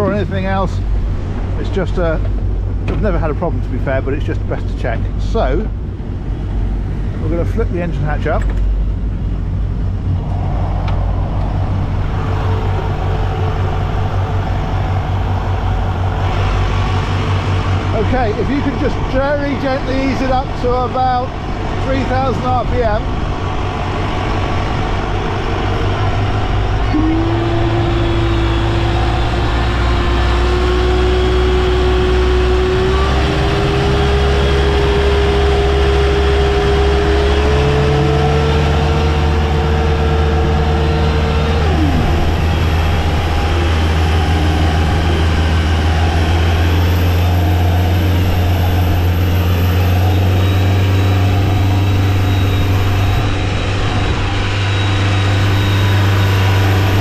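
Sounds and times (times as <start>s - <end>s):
boat engine running: 0.0s - 57.0s
engine whine: 0.0s - 57.0s.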